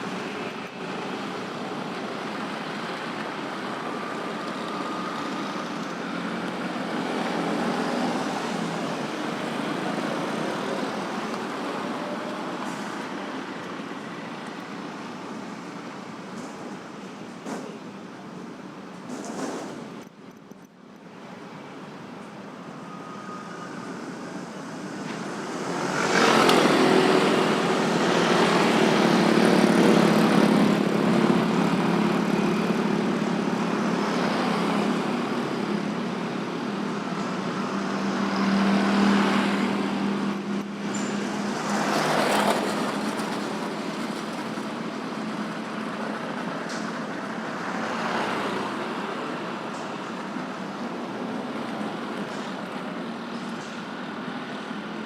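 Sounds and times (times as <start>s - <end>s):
road traffic: 0.0s - 55.0s
vehicles passing close by: 0.0s - 55.0s.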